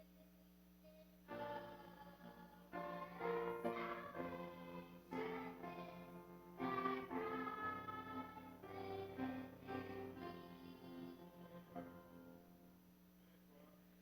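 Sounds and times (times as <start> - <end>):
congregation singing a hymn: 1.3 - 12.5
sustained accompaniment chords: 1.3 - 12.9.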